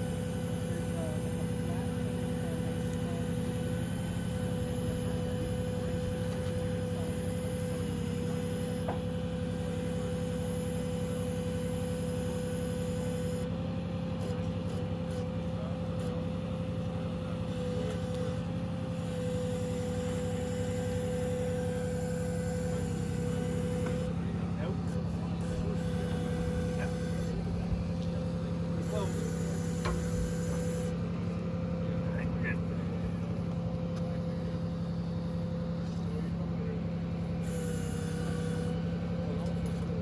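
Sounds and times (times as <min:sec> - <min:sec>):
hydraulics high hum: 0:00.0 - 0:40.0
truck engine droning: 0:00.0 - 0:40.0.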